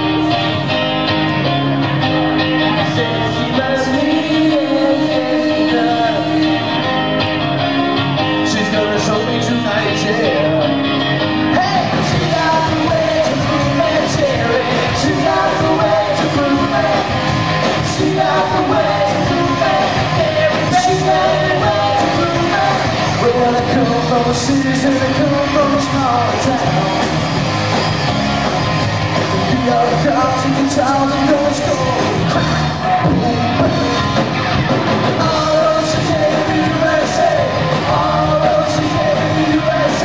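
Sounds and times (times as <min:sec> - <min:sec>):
bass guitar: 0:00.0 - 0:40.0
drums: 0:00.0 - 0:40.0
electric guitar: 0:00.0 - 0:40.0
person singing: 0:02.4 - 0:07.2, 0:08.4 - 0:27.1, 0:29.4 - 0:34.2, 0:35.2 - 0:40.0.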